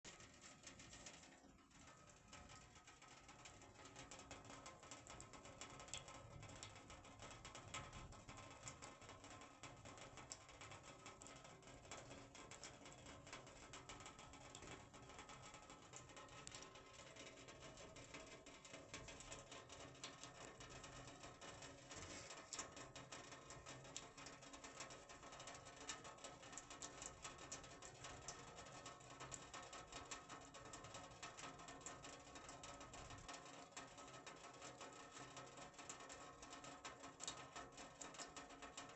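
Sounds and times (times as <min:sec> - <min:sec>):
rain on a metal roof: 0:00.1 - 0:38.9.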